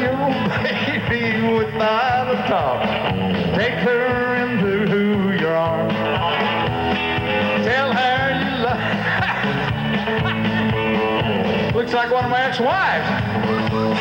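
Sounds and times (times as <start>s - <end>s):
electric guitar lead: 0.0s - 14.0s
rock and roll band playing: 0.0s - 14.0s.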